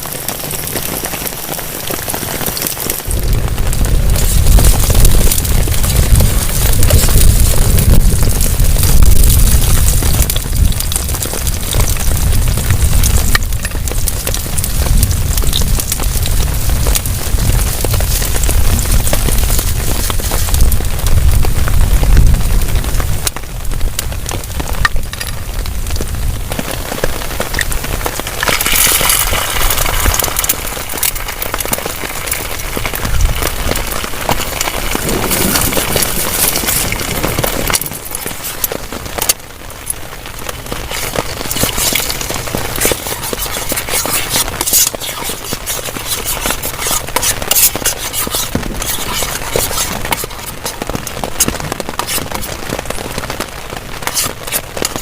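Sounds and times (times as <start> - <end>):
heavy rain on a tarp: 0.0 - 55.0.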